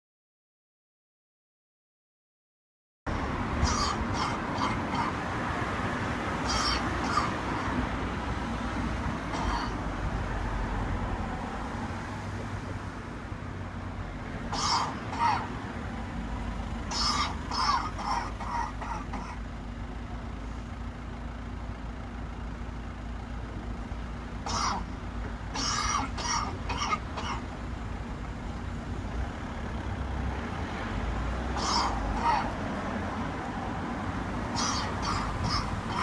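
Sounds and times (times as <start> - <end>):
low rumble of street traffic: 3.1 - 36.0.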